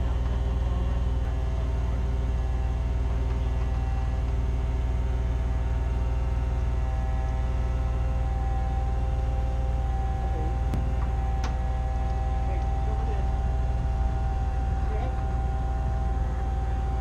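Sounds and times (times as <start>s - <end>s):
forklift engine humming: 0.0s - 17.0s.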